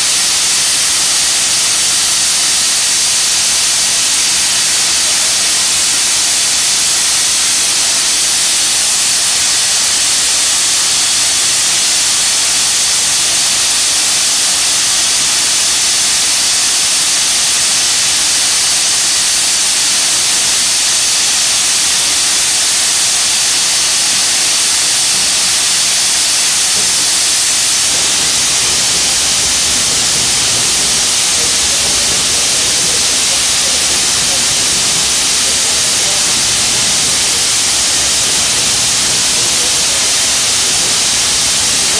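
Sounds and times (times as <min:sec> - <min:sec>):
loud hiss of escaping steam: 0:00.0 - 0:41.9.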